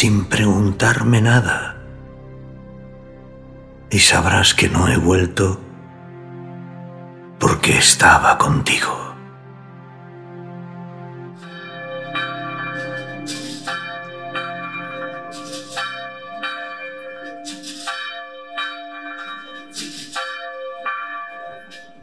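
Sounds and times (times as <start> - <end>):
church bells ringing: 0.0 - 2.4, 3.1 - 6.2, 7.4 - 9.2, 11.2 - 22.0
low music drone: 0.0 - 22.0.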